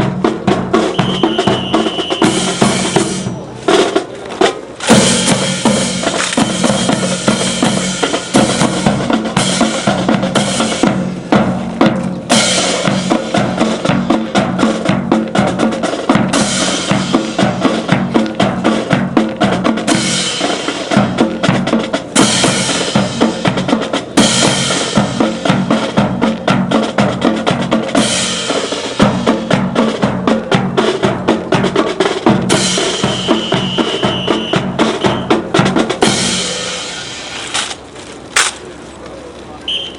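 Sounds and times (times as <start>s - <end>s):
drum-led music: 0.0s - 37.6s.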